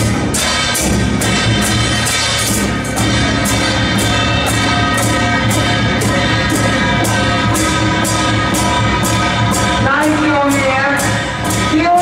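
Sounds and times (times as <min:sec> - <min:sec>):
drum beat: 0:00.0 - 0:12.0
hand cymbals clashing: 0:00.0 - 0:12.0.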